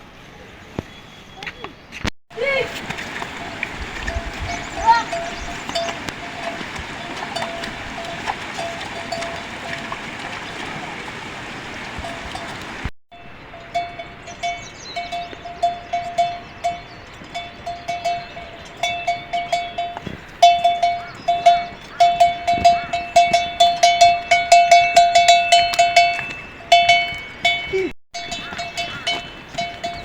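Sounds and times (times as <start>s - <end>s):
livestock bells clanking: 2.4s - 30.0s.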